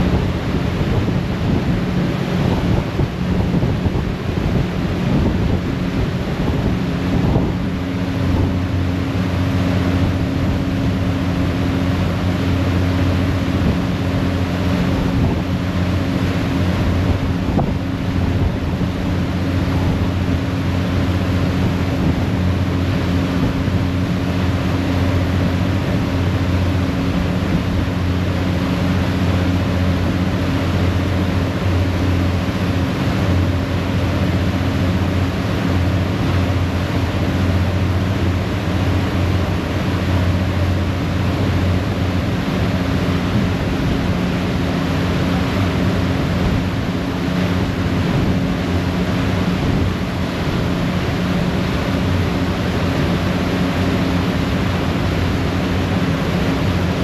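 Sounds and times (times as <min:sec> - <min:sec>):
propeller wake churning: 0:00.0 - 0:57.0
wind buffeting microphone: 0:00.0 - 0:57.0.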